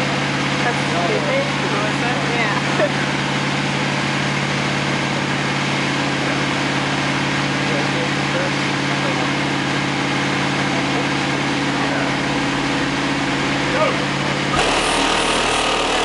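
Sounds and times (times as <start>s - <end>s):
low vehicle engine drone: 0.0s - 16.0s.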